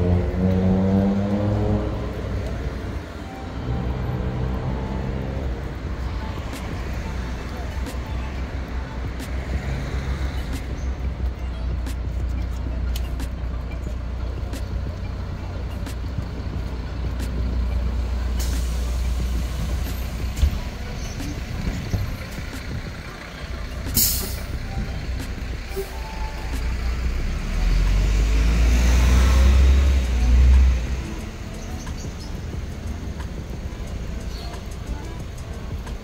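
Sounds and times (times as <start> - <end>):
heavy vehicle engine rumbling: 0.0 - 36.0.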